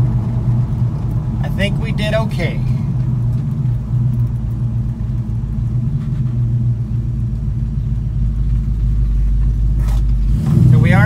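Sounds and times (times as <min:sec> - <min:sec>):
car engine low drone: 0:00.0 - 0:11.0.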